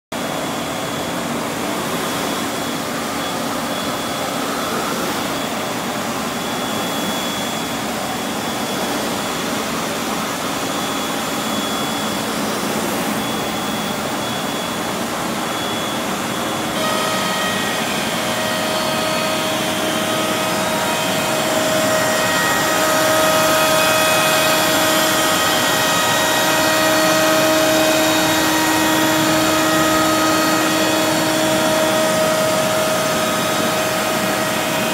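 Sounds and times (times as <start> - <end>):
cnc router rushing with whine: 0.2 - 34.9
steady whining tones: 0.2 - 34.9.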